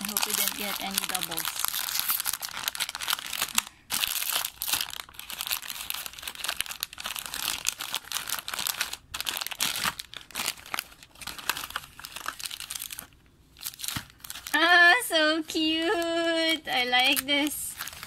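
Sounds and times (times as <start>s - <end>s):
packaging crumpled and torn: 0.0s - 18.0s.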